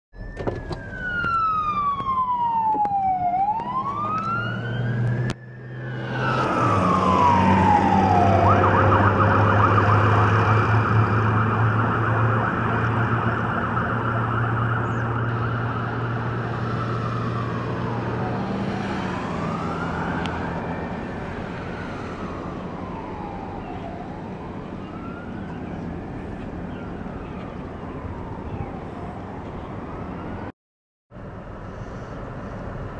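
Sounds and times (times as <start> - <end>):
fire engine siren wailing: 0.2 - 30.5
low engine hum: 0.2 - 30.5, 31.1 - 32.9.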